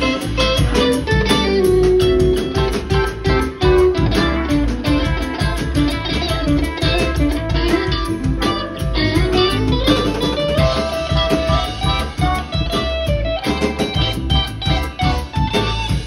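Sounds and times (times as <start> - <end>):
bass guitar: 0.0 - 16.0
drums: 0.0 - 16.0
electric guitars playing lead: 0.0 - 16.0.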